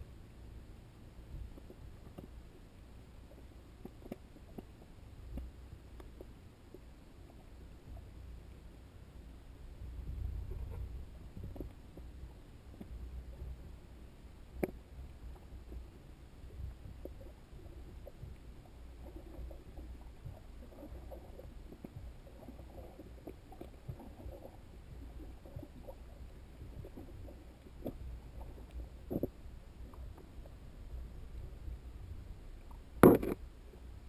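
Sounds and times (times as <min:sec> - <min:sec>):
muffled underwater rumble: 0:00.0 - 0:34.0.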